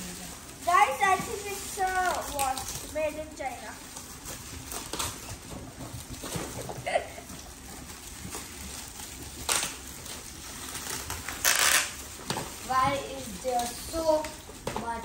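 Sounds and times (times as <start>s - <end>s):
wrapping paper crinkling: 0.0s - 15.0s.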